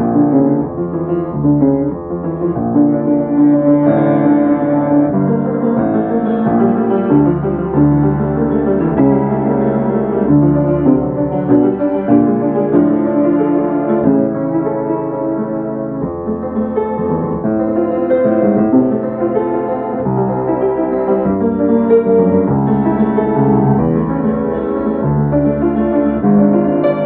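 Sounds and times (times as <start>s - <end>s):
classical piano piece: 0.0s - 27.0s.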